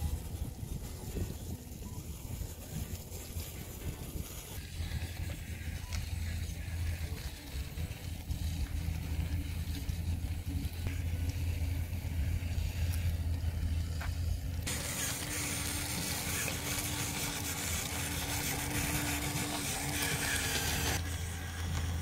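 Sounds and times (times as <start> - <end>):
hissy whir: 0.0 - 22.0
small motors humming: 0.0 - 22.0.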